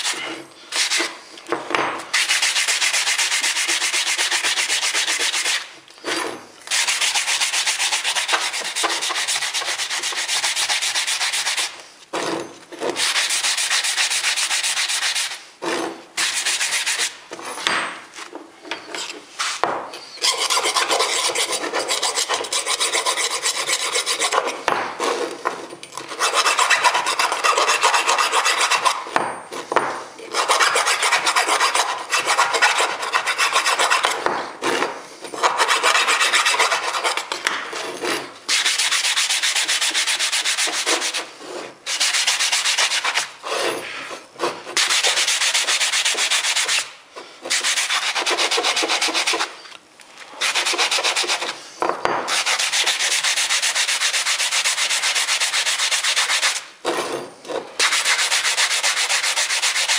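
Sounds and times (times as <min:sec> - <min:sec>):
metal being filed by hand: 0:02.1 - 0:17.2, 0:18.8 - 0:25.4, 0:26.0 - 0:29.2, 0:30.2 - 0:49.6, 0:50.4 - 0:51.6, 0:52.3 - 0:59.9.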